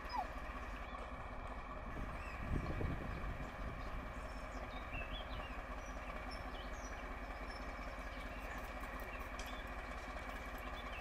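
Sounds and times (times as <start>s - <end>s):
birds chirping: 0.0s - 11.0s
engine idling: 0.0s - 11.0s.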